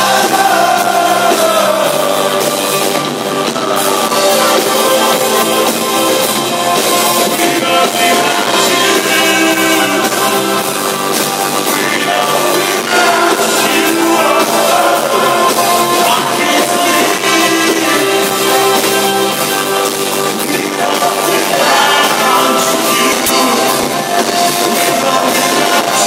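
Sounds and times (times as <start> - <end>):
drum kit: 0.0 - 26.0
live band playing amplified music: 0.0 - 26.0
person singing: 0.0 - 26.0.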